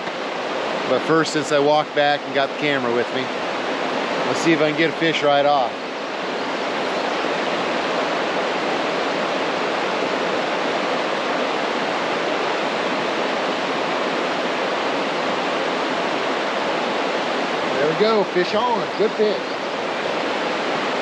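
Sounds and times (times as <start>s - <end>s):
river rapids rushing over rocks: 0.0s - 21.0s.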